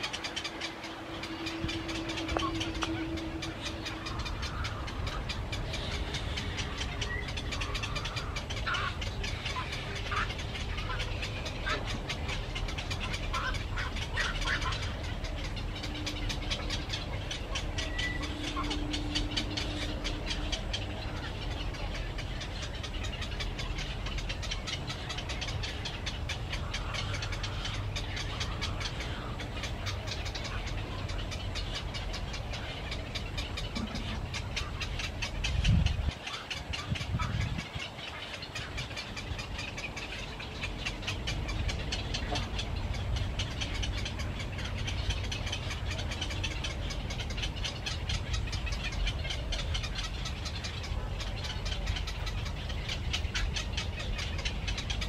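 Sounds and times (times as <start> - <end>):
bird chirps: 0.0 - 55.0
low rumble and hiss: 0.0 - 55.0.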